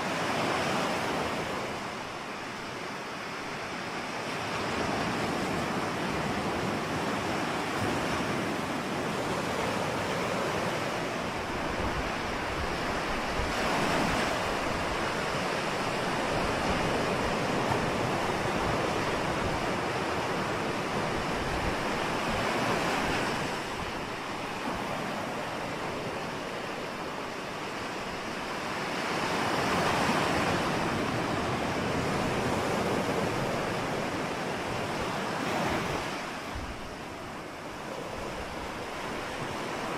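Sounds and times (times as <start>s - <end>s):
ocean waves breaking on shore: 0.0s - 39.9s
wind buffeting microphone: 4.6s - 39.9s.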